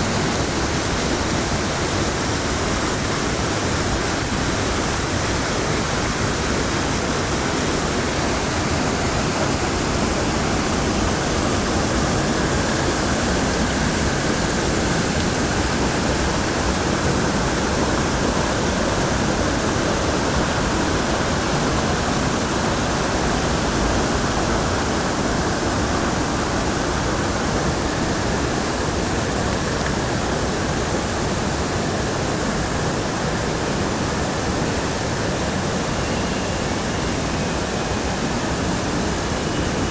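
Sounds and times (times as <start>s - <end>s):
waterfall pouring over rock: 0.0s - 39.9s.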